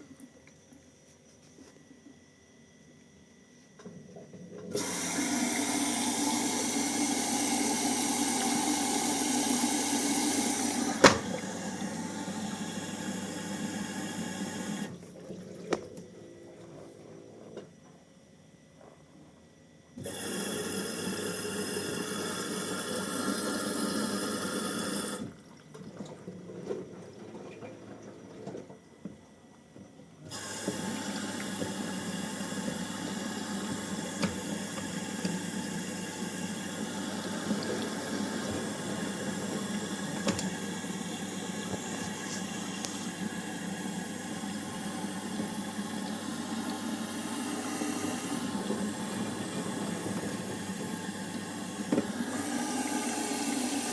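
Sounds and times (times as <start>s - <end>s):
water running: 3.9s - 17.8s, 20.0s - 29.6s, 30.2s - 53.9s.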